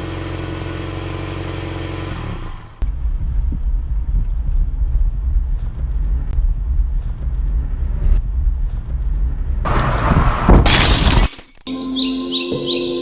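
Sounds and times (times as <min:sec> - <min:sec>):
low engine rumble: 0:00.0 - 0:10.6.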